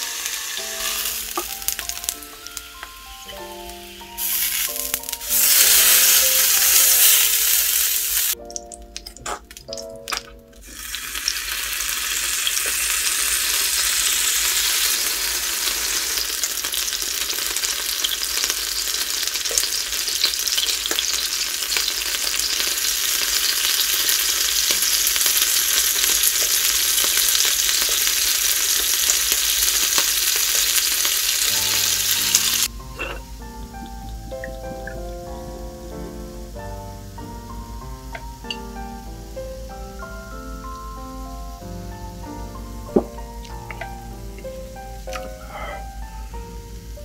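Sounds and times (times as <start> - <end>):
eel sizzling in oil: 0.0 - 47.0.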